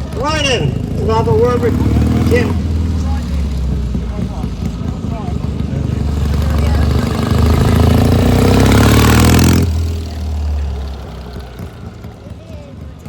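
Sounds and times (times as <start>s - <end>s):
motorcycle engine idling: 0.0s - 13.0s
motorcycle engine revving: 0.0s - 13.0s.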